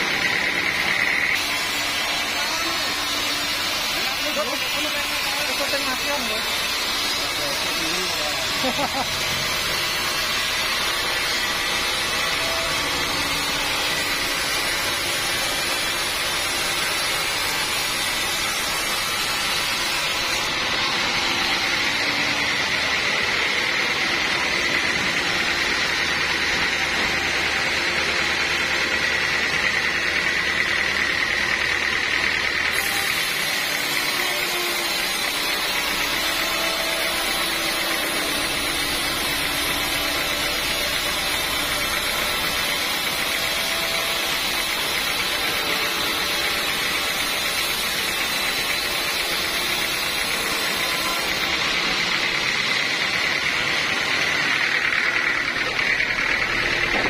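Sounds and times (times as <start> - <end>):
band saw blade cutting wood: 0.0 - 57.0
sawmill machine noise: 0.0 - 57.0.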